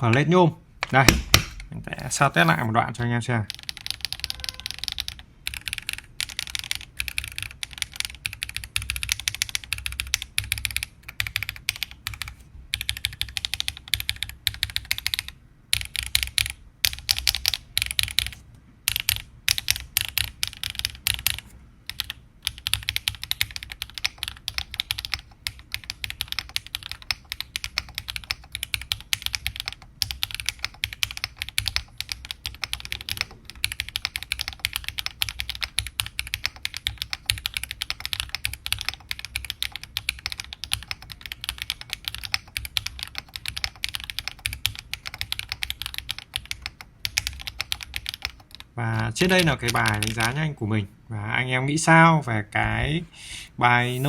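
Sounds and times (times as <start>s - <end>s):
mechanical keyboard typing: 3.4s - 50.4s.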